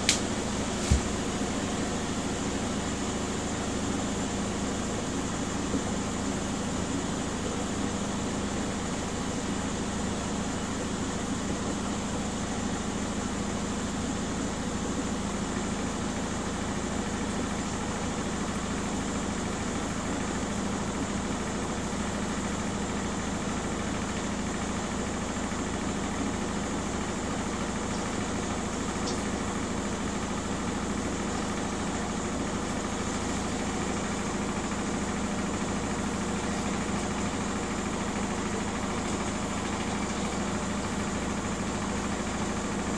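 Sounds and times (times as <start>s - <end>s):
washing machine spinning: 0.0s - 42.9s.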